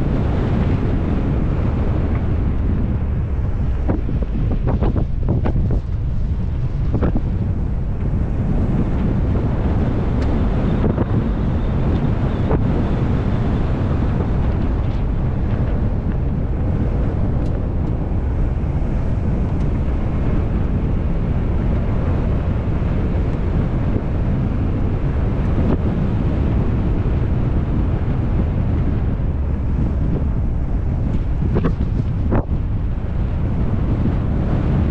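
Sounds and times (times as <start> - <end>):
wind buffeting camera: 0.0 - 34.9.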